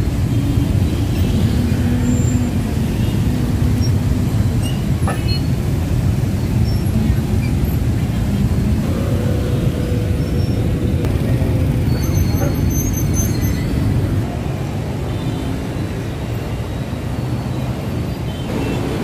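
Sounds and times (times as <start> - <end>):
heavy vehicles rumbling: 0.0 - 19.0.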